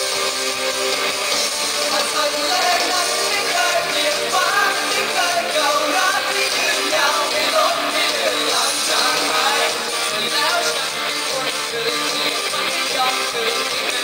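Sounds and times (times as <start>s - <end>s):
pop-rock band playing live: 0.0s - 14.0s
person singing: 1.7s - 14.0s.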